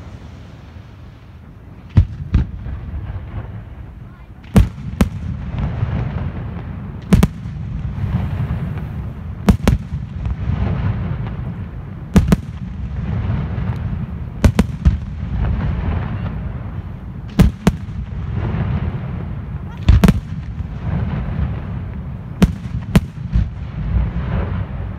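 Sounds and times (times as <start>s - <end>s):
firework rumble and crackle: 0.0s - 24.9s.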